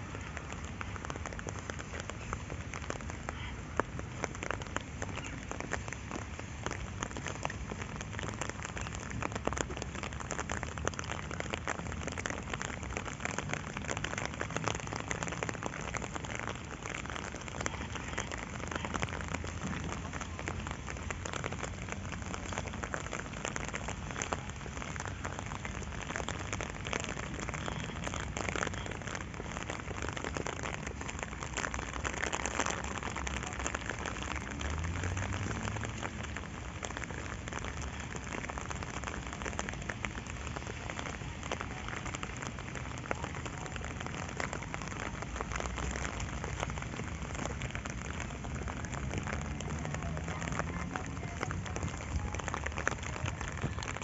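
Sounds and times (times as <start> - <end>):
close raindrop hits: 0.0 - 54.0
rain falling on pond: 0.0 - 54.0.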